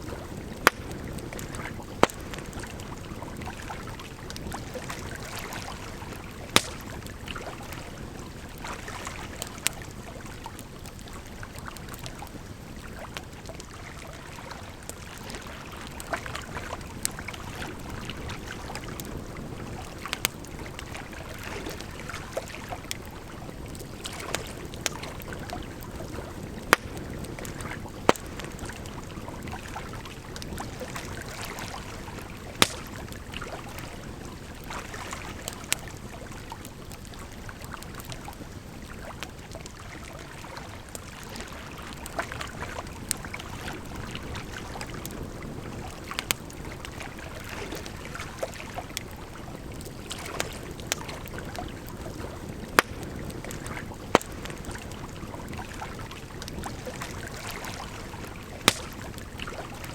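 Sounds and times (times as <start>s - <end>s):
wood fire crackling and popping: 0.0s - 39.8s, 42.0s - 47.0s, 47.7s - 57.4s, 58.0s - 59.9s.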